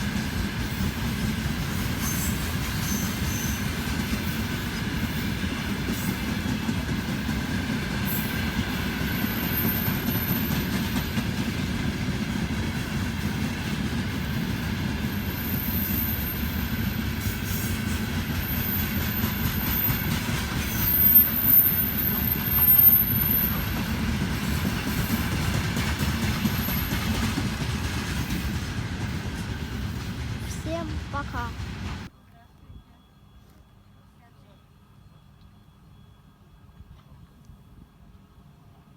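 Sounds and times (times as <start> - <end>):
train wheels clattering on rails: 0.0 - 32.1.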